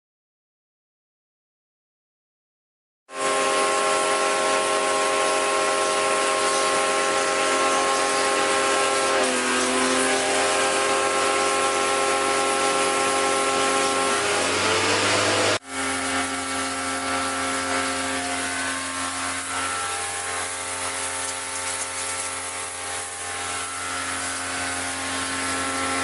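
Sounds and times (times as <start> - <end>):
motor hum: 3.1 - 26.0
cleaning machine spraying hiss: 3.2 - 15.6, 16.2 - 26.0.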